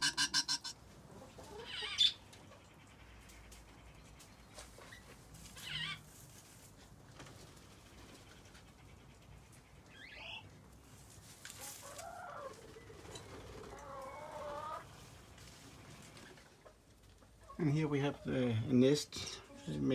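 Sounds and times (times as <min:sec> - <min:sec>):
chickens clucking: 0:00.0 - 0:19.9.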